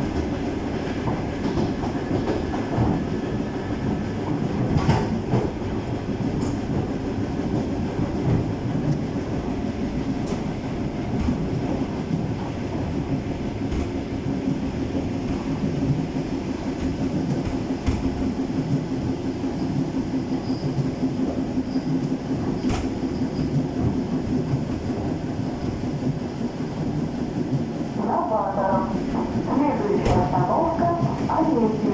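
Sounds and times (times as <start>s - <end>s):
train rumbling with low hum: 0.0s - 31.9s.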